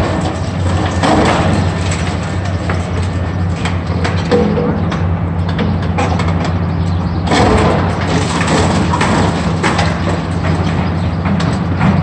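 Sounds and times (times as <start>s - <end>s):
heavy engine running: 0.0s - 12.0s
rough crunching noise: 0.0s - 12.0s.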